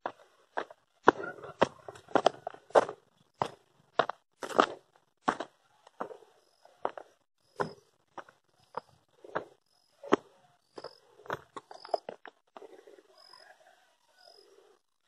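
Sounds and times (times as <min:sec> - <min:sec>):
footsteps on stony dirt trail: 0:00.0 - 0:12.8.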